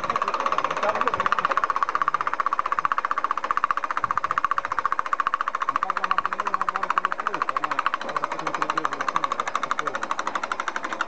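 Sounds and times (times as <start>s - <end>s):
jet engine rattling pulse: 0.0s - 11.0s
mid-pitched engine hum: 0.0s - 11.0s.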